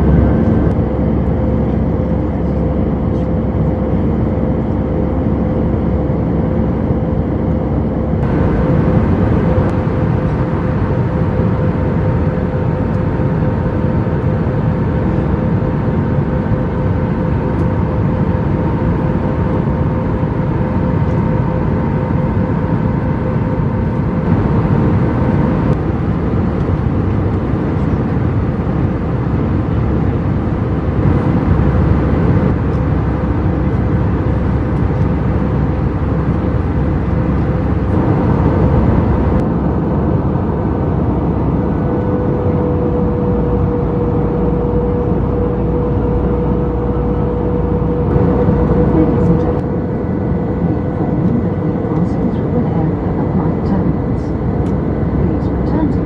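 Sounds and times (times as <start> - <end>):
aircraft cabin engine roar: 0.0 - 56.0
faint constant hum: 0.0 - 56.0.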